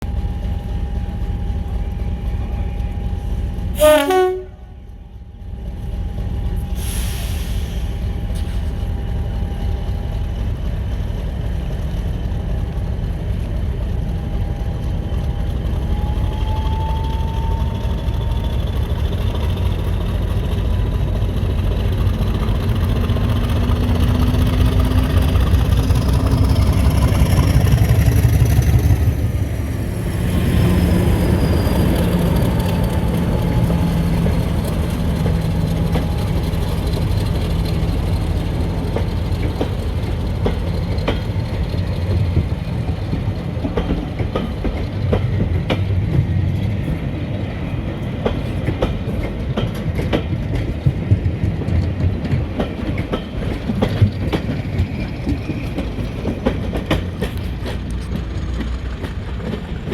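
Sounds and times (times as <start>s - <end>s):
diesel locomotive rumble: 0.0s - 59.9s.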